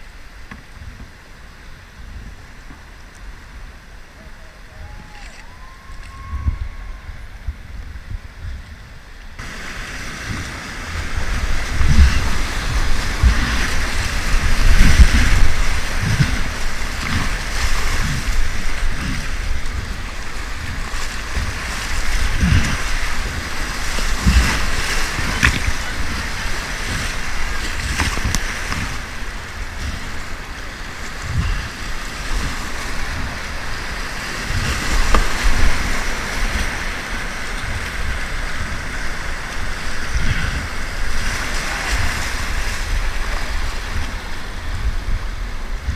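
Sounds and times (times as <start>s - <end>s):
rushing whitewater: 0.0s - 45.9s
wind buffeting microphone: 0.0s - 45.9s.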